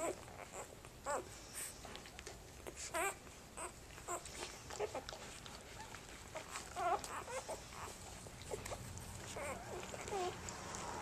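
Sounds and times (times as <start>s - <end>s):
puppies squeaking and whimpering: 0.0s - 11.0s.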